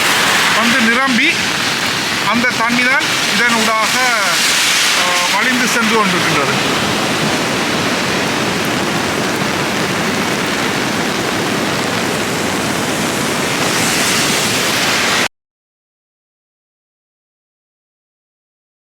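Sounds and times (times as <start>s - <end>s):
floodwater rushing: 0.0s - 15.3s.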